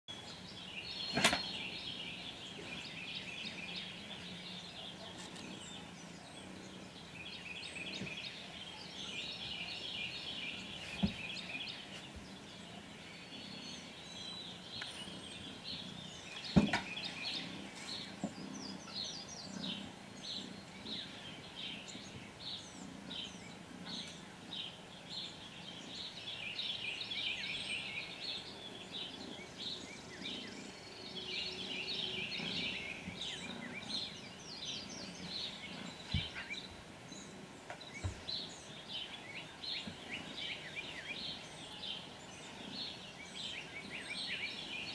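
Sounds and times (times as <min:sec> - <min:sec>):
static-like rumble: 0:00.1 - 0:44.9.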